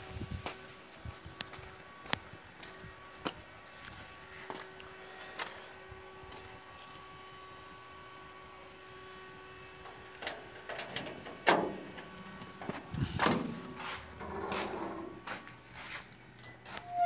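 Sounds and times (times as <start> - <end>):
faint steady hum: 0.0 - 16.7.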